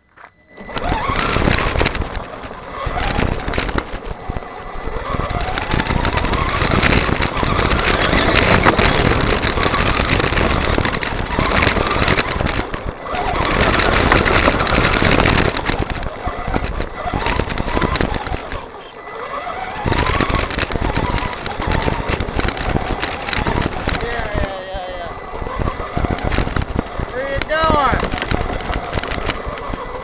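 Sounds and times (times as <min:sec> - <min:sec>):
electric motor whine: 0:00.0 - 0:30.0
tyres on gravel: 0:00.0 - 0:30.0.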